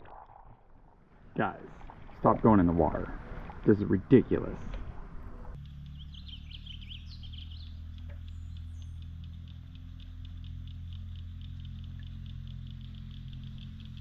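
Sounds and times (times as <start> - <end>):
steady low rumble: 0.0 - 14.0
birds chirping: 1.3 - 14.0.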